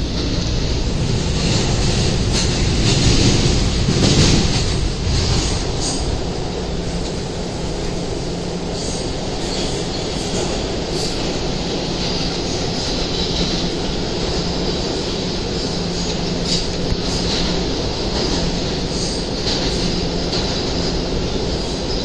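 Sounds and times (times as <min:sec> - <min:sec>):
subway wheels rumbling on track: 0:00.0 - 0:22.0.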